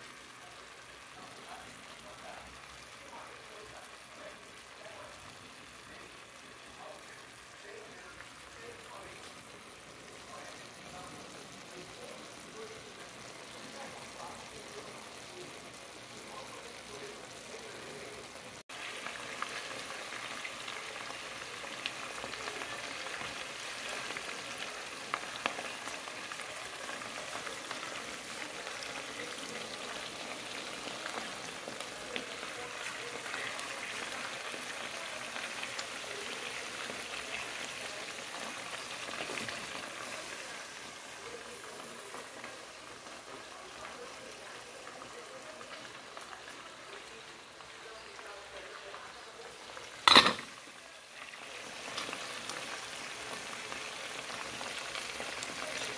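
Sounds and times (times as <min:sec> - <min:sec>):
chicken sizzling in hot fat: 0:00.0 - 0:55.9.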